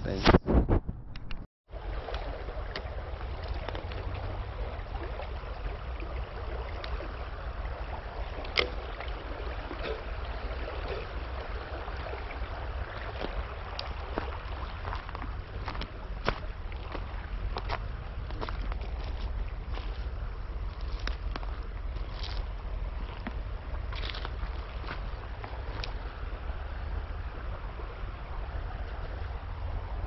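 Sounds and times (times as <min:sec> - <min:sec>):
river water running: 0:01.7 - 0:30.0.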